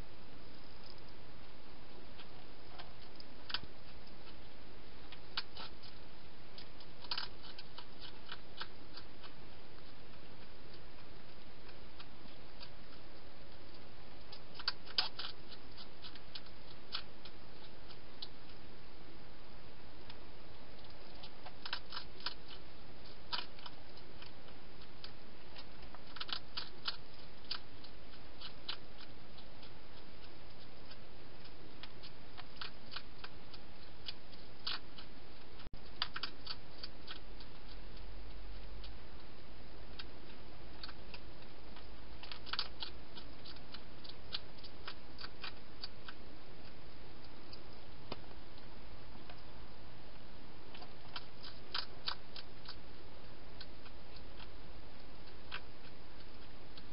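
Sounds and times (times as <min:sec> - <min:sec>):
hedgehog chewing food: 0:00.0 - 0:56.9.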